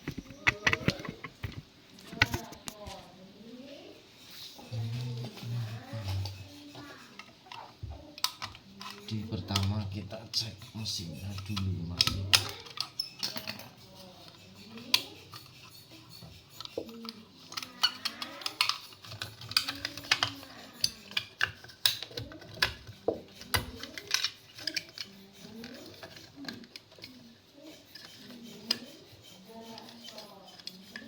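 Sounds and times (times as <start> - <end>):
faint voices: 0.0 - 31.0.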